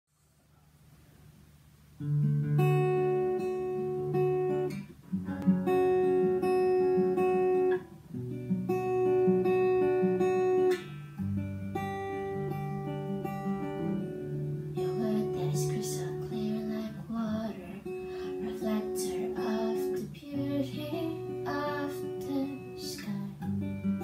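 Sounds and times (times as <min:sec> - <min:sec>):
acoustic guitar chords: 0:01.5 - 0:24.0.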